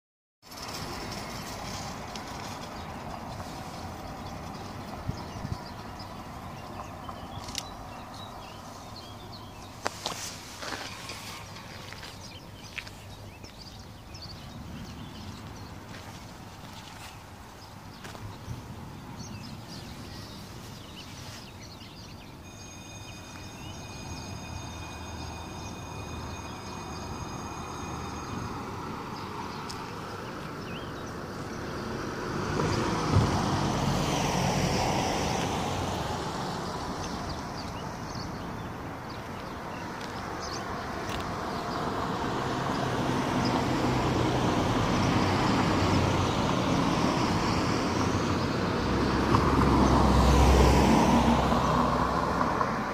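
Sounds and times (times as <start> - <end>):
road traffic rumble: 0.4 - 52.9.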